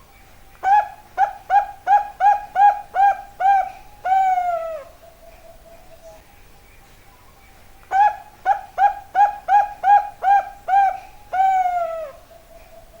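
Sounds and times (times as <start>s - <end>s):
dove cooing: 0.6s - 6.1s, 7.9s - 13.0s.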